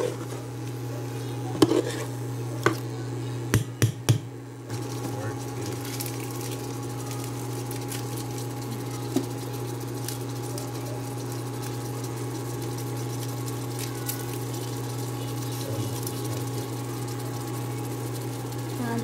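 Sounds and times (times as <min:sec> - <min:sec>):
induction cooktop electrical hum: 0:00.0 - 0:19.0.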